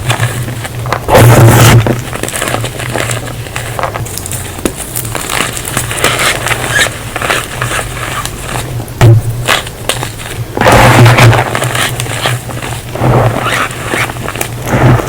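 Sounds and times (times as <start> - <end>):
chalk being squeezed and crushed: 0.0 - 8.8, 9.4 - 15.0.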